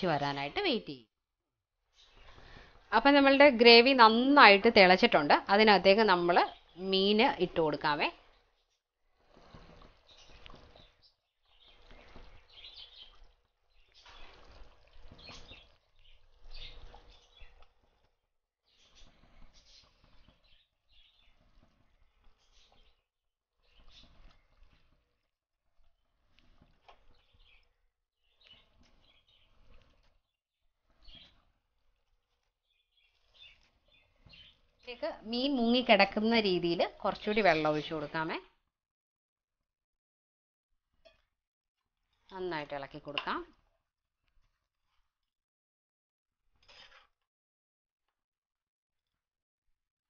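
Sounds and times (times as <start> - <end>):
curry boiling in clay pot: 0.0 - 38.9, 40.8 - 45.4.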